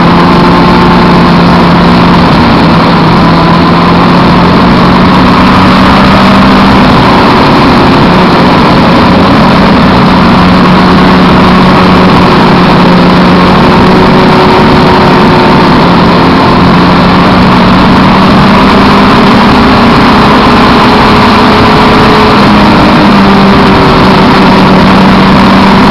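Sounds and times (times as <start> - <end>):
motorcycle engine cruising: 0.0 - 25.9
wind rushing over microphone: 0.0 - 25.9.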